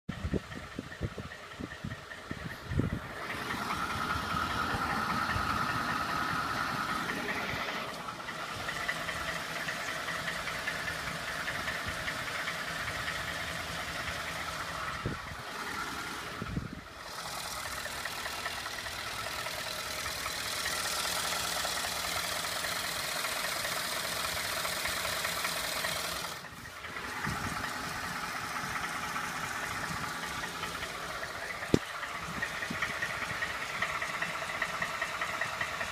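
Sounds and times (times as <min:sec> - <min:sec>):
engine running with knock: 0:00.1 - 0:35.9.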